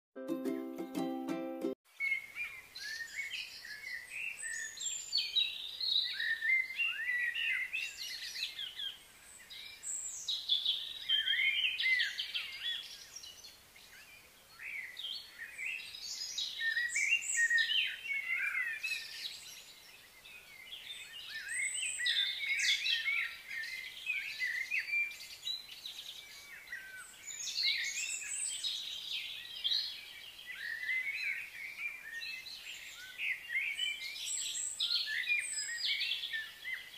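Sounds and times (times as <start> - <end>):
birds chirping and singing: 2.0 - 36.9.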